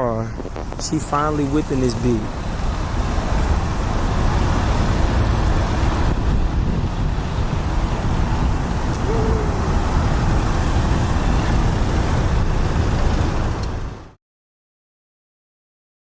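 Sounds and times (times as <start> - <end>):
road traffic rumble: 0.0 - 14.2.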